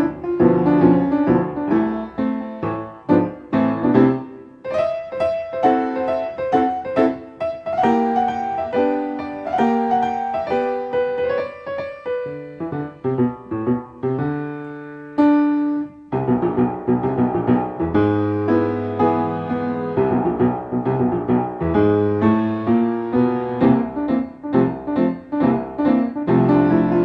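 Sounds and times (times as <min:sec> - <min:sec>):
piano accompaniment music: 0:00.0 - 0:27.0.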